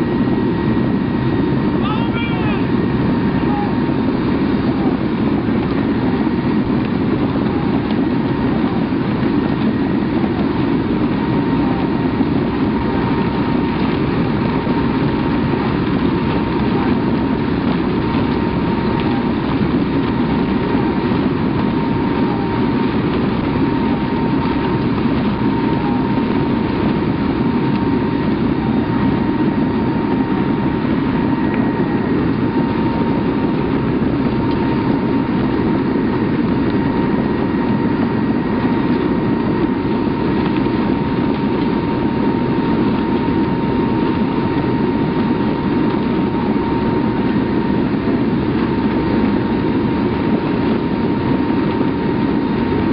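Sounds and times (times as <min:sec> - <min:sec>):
aircraft engines and wind rushing: 0:00.0 - 0:52.9.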